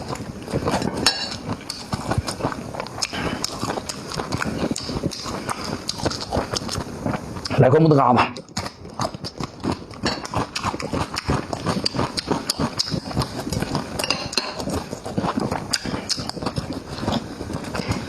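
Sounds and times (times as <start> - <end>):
person chewing with wet smacking: 0.0 - 7.6, 8.3 - 18.0.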